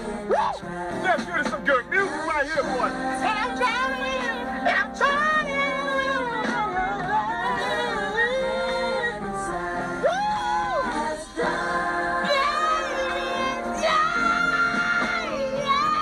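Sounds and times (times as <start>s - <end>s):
music: 0.0s - 16.0s
person singing long sliding notes: 2.1s - 16.0s.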